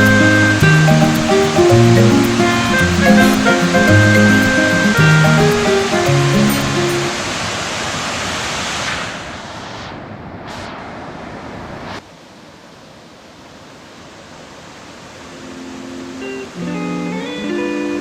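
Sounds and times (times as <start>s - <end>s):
waterfall rushing water: 0.0s - 9.9s, 11.1s - 18.0s.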